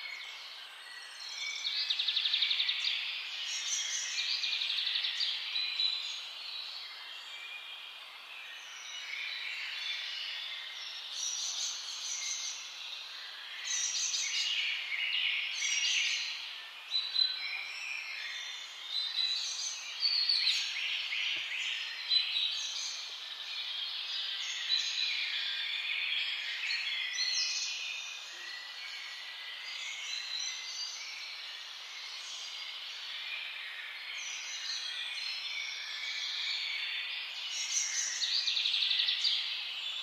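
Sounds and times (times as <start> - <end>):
faint background hiss: 0.0 - 40.0
small birds chirping: 0.0 - 40.0.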